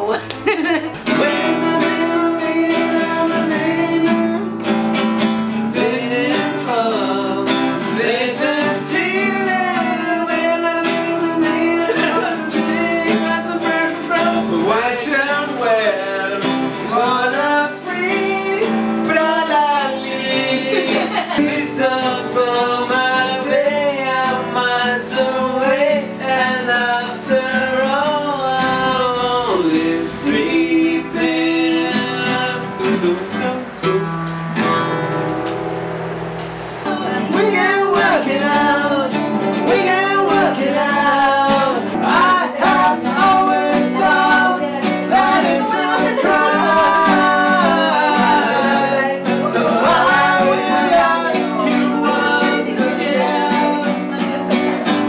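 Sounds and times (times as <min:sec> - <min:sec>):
acoustic guitar: 0:00.0 - 0:55.0
man singing: 0:01.0 - 0:34.2, 0:36.8 - 0:55.0.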